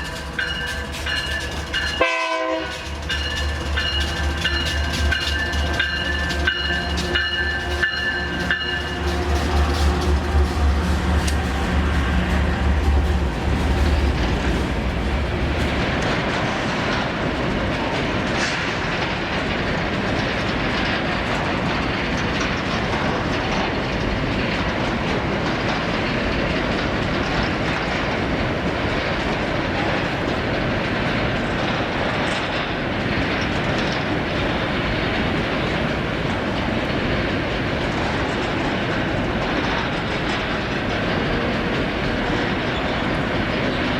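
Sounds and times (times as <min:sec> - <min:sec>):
freight wagons rumbling: 0:00.0 - 0:43.9
locomotive engine drone: 0:00.0 - 0:43.9
wheels clicking over rails: 0:00.0 - 0:43.9.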